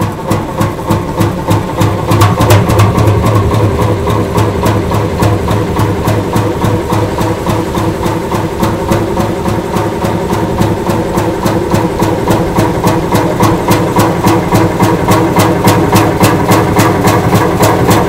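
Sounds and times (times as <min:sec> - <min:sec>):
stationary engine running: 0:00.0 - 0:18.0.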